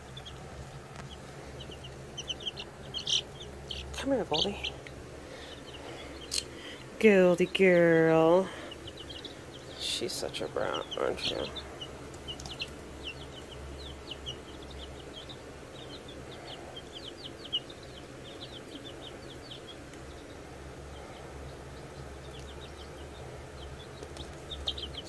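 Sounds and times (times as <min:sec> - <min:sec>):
baby chicks peeping: 0:00.0 - 0:25.0
low steady hum: 0:00.0 - 0:25.0.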